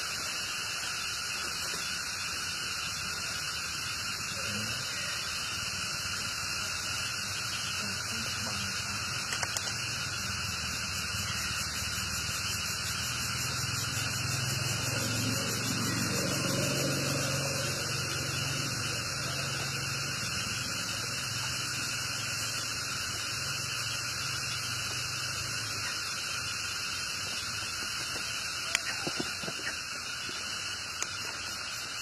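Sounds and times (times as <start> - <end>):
continuous high hiss: 0.0 - 32.0.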